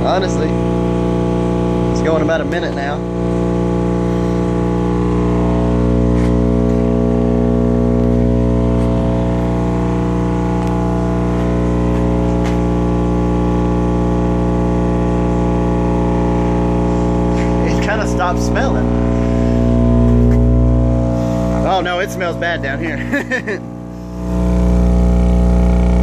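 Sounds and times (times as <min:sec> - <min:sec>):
subwoofer low hum with buzzing: 0:00.0 - 0:26.0.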